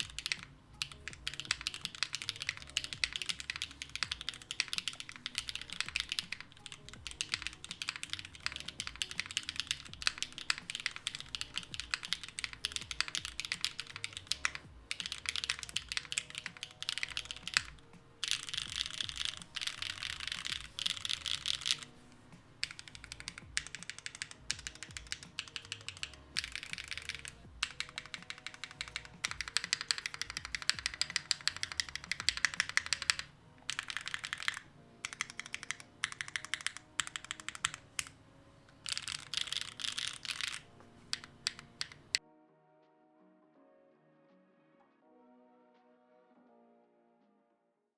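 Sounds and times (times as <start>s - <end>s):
mechanical keyboard typing: 0.0s - 42.2s.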